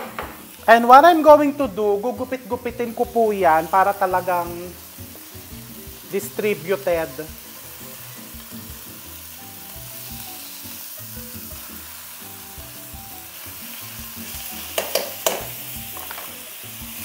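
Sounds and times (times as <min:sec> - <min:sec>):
beef sizzling in a wok: 0:00.0 - 0:17.0.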